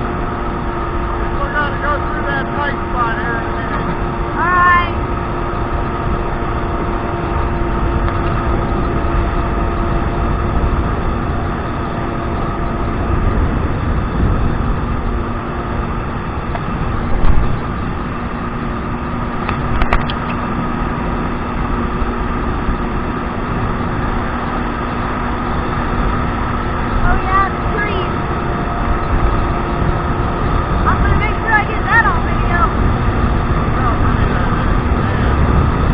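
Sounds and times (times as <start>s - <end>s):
jet ski engine running: 0.0s - 35.9s.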